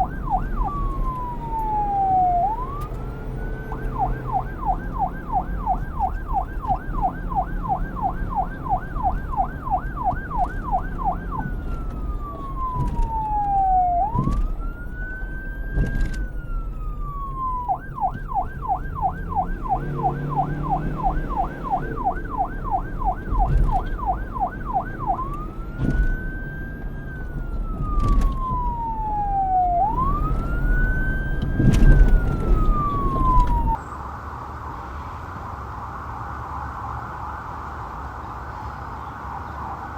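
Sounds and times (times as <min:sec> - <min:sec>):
police siren yelp and wail: 0:00.0 - 0:34.1, 0:35.6 - 0:39.9.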